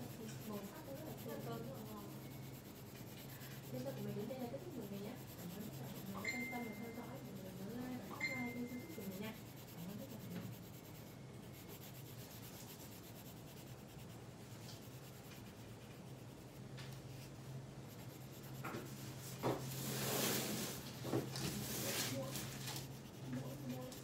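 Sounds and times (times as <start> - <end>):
pencil scratching on paper: 0.0 - 24.0.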